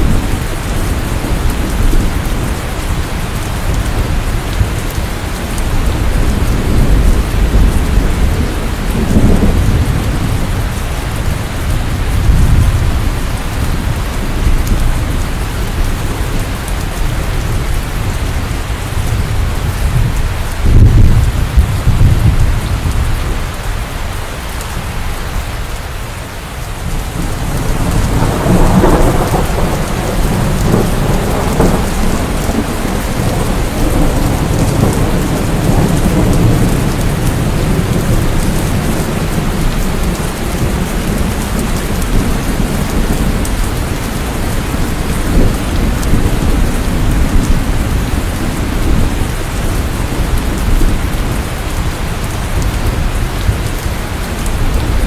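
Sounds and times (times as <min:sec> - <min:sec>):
rolling thunder: 0:00.0 - 0:23.7, 0:26.7 - 0:55.0
heavy rain: 0:00.0 - 0:55.0.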